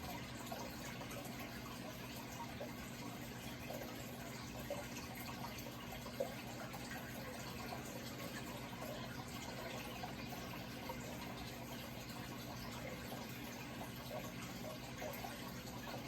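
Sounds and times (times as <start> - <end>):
bubbling water blips: 0.0 - 16.0
water trickling: 0.0 - 16.0.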